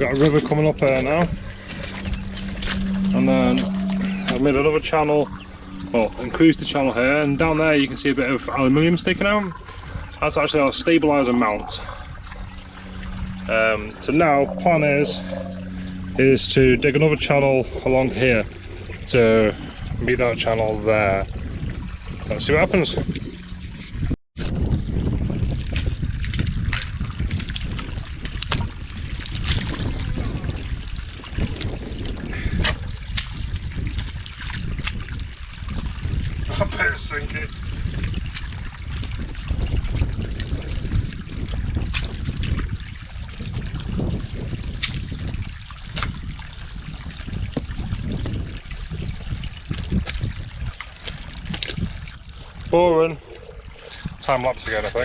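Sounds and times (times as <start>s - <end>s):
water trickling: 0.0s - 55.0s
wind rumble on microphone: 0.0s - 55.0s.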